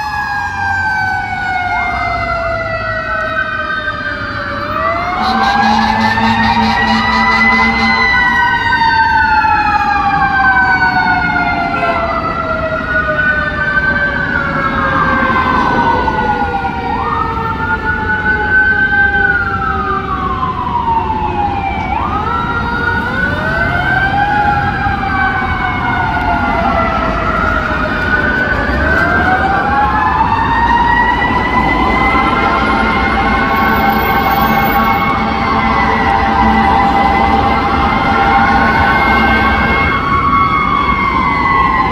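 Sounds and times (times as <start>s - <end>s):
electronic wail sirens: 0.0s - 41.9s
mechanical fire siren: 0.0s - 41.9s
traffic rumble: 0.0s - 41.9s.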